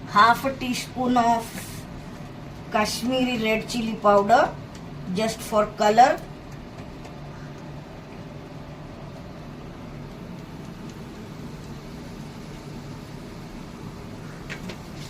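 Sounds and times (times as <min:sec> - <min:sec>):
gas stove burner hum and hiss: 0:00.0 - 0:15.0.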